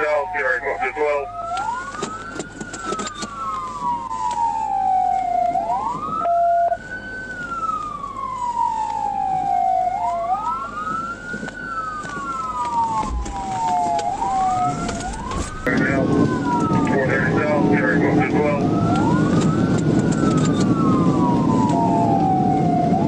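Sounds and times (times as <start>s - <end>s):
police siren wailing: 0.0s - 23.0s.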